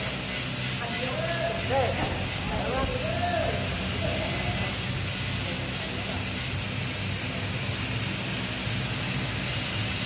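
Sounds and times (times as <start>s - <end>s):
fan humming and hissing: 0.0s - 10.0s.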